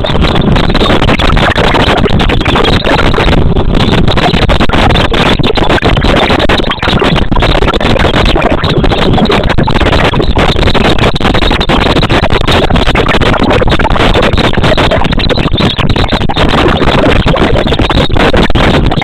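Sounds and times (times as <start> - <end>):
loud steady rumbling: 0.0 - 19.0.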